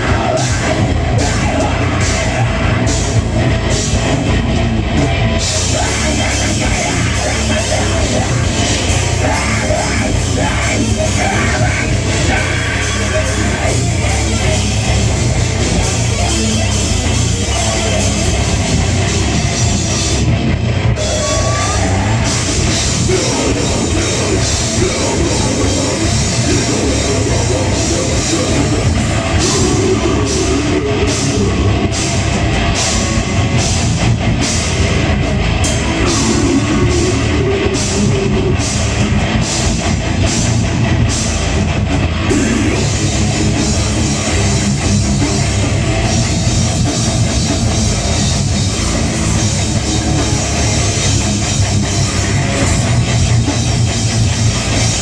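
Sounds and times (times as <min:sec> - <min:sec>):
drum accents: 0:00.0 - 0:55.0
heavy metal band playing live: 0:00.0 - 0:55.0.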